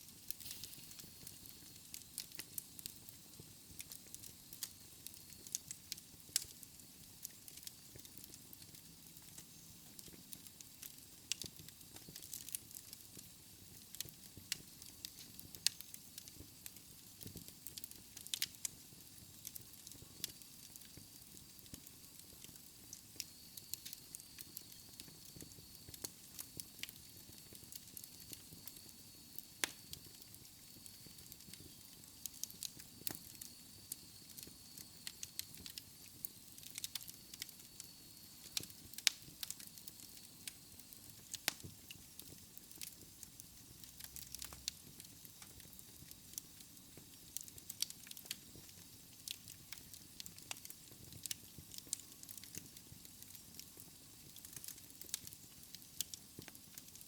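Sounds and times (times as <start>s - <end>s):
low rumble of burning logs: 0.0s - 57.0s
wood fire crackling: 0.0s - 57.0s.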